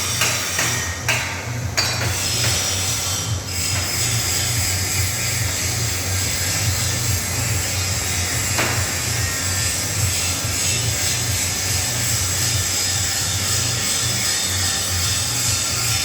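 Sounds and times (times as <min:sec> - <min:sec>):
machine hum and hiss: 0:00.0 - 0:16.0.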